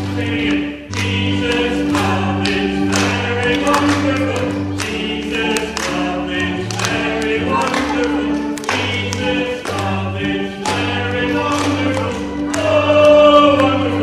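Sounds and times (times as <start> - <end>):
group singing: 0.0 - 14.0.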